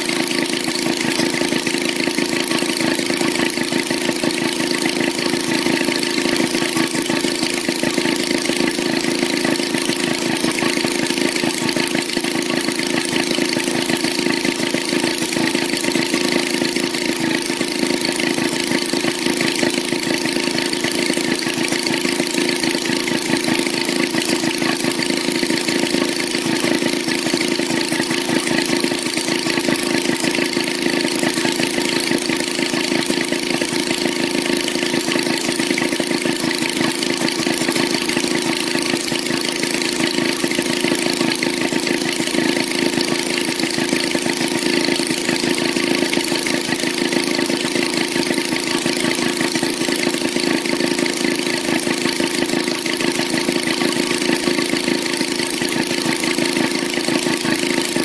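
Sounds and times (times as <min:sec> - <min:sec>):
two-stroke engine running: 0:00.0 - 0:58.0.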